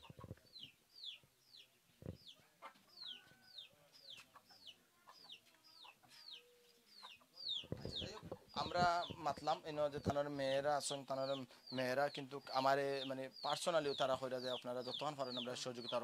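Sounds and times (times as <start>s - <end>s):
chick peeping: 0.0s - 16.0s.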